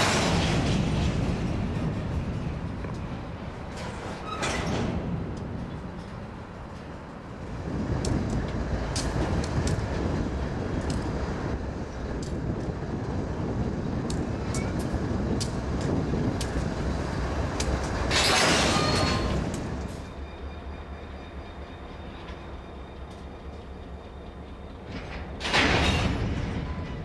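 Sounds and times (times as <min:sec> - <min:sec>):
diesel locomotive rumbling: 0:00.0 - 0:27.0.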